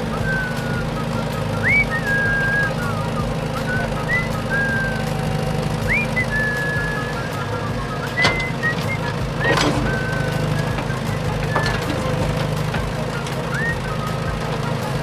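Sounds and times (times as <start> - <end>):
person whistling a tune: 0.0 - 15.0.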